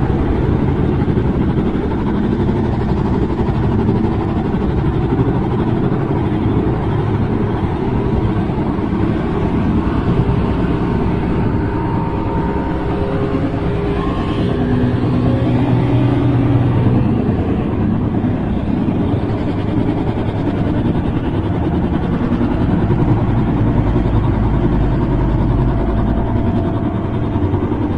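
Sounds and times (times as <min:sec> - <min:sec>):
loud low rumble: 0:00.0 - 0:27.9
faint drawn-out tones: 0:05.0 - 0:27.9.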